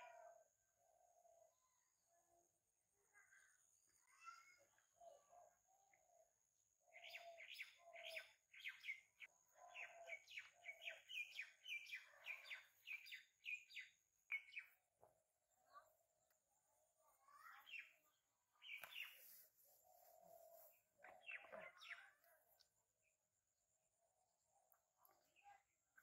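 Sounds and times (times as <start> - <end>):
songbird chirping: 0.0 - 26.0.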